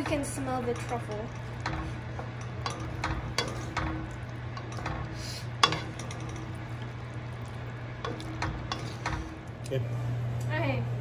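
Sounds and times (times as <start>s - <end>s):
spatula scraping skillet: 0.0s - 9.5s.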